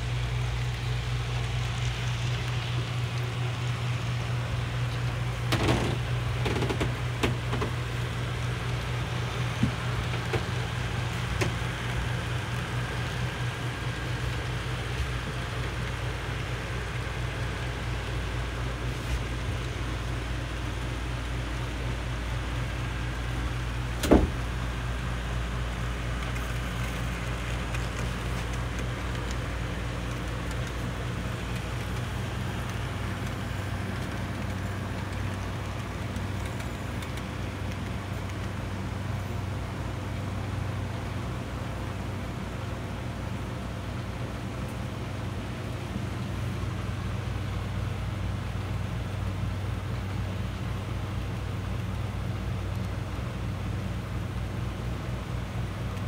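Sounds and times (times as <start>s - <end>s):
model train hum and rumble: 0.0s - 56.0s.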